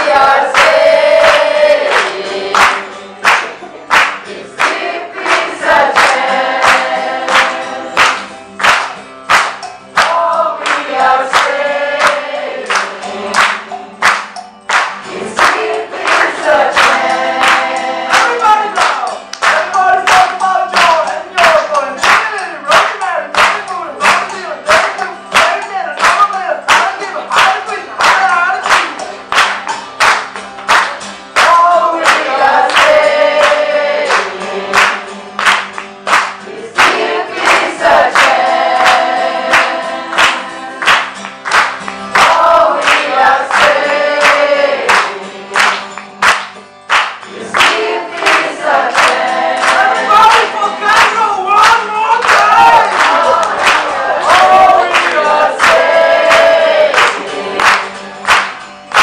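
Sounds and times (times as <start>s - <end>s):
group singing: 0.0s - 14.2s, 14.9s - 29.1s, 30.7s - 46.4s, 47.2s - 58.5s
acoustic guitar: 0.0s - 59.0s
hand clapping: 0.0s - 59.0s.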